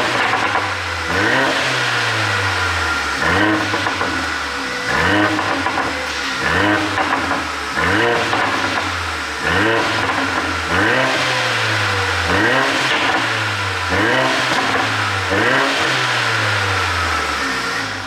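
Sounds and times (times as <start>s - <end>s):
car engine rev blips: 0.0s - 18.0s
exhaust crackling and popping: 0.0s - 18.0s.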